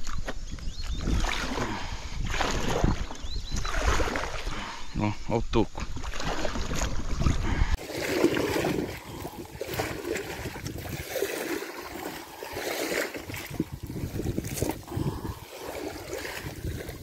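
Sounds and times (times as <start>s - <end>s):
paddle splashing through water: 1.0s - 4.8s, 5.7s - 17.0s.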